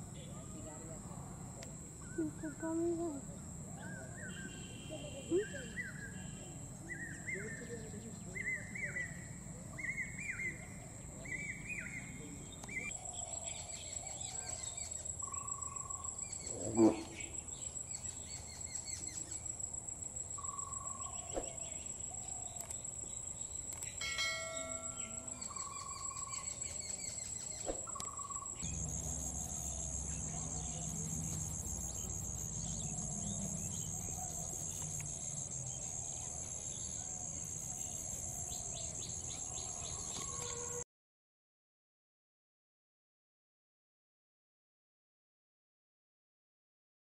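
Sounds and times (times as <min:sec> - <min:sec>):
insects trilling: 0:00.0 - 0:40.8
bird calls: 0:02.0 - 0:19.6, 0:20.4 - 0:40.8.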